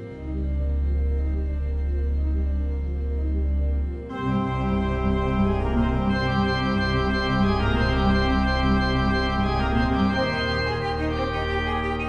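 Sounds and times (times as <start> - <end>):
organ-like chords: 0.0 - 12.0.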